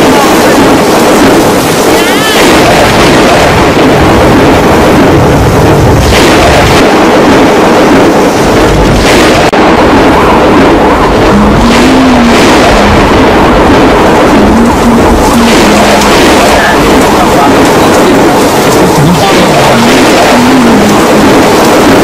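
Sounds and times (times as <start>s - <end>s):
heavy rainstorm: 0.0s - 22.0s
wind buffeting microphone: 0.0s - 22.0s.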